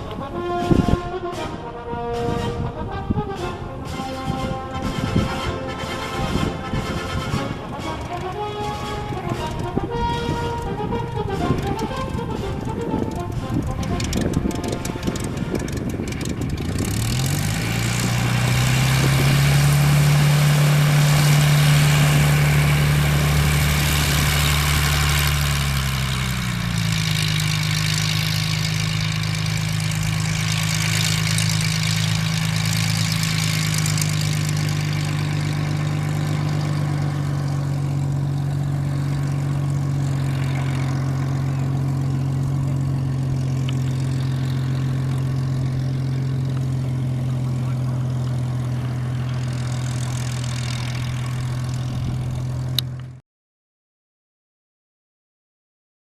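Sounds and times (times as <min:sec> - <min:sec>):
propeller aircraft engine running: 0:00.0 - 0:53.2.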